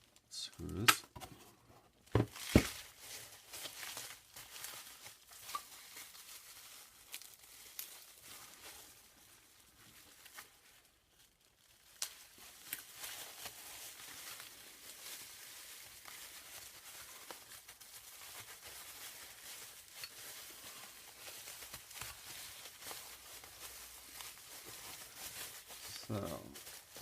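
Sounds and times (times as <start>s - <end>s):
packaging crinkling and tearing: 2.0s - 27.0s.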